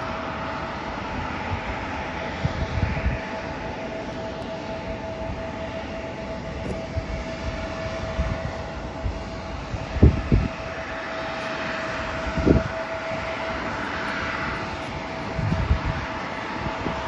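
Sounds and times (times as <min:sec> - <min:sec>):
constant hum: 0:00.0 - 0:17.0
distant jet engines rushing: 0:00.0 - 0:17.0.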